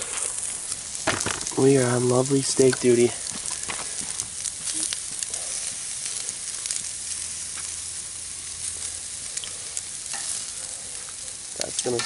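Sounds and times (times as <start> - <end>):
campfire pops and crackles: 0.0 - 12.0
steaks sizzling on a grate: 0.0 - 12.0.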